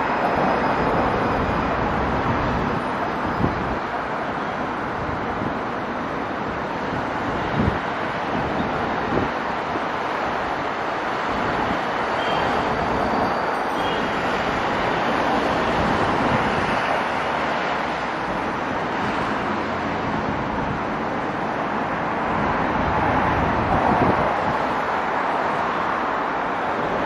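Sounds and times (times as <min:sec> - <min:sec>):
city traffic noise: 0:00.0 - 0:27.0.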